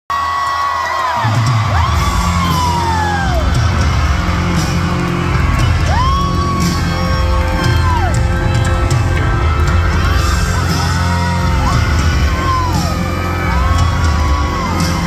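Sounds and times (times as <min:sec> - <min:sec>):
fans whooping: 0:00.1 - 0:15.0
live rock band playing: 0:01.3 - 0:15.0.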